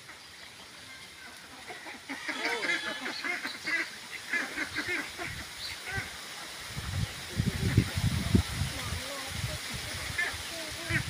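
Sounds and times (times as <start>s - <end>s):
ducks quacking: 0.9s - 6.6s, 7.3s - 11.0s.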